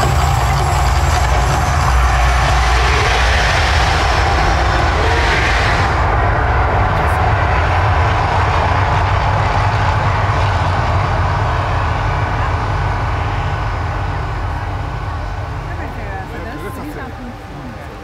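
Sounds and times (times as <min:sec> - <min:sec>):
volcano eruption deep rumble: 0:00.0 - 0:18.0.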